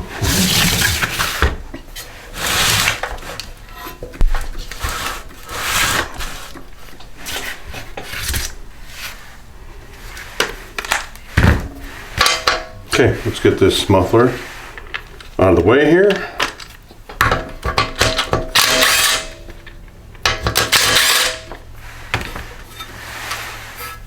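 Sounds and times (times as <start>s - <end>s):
tools scraping and clattering: 0.0s - 9.3s, 10.0s - 24.0s.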